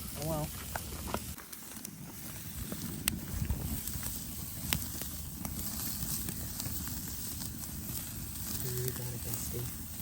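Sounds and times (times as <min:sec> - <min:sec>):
campfire wood crackling: 0:00.0 - 0:10.0
fire pops: 0:00.0 - 0:10.0.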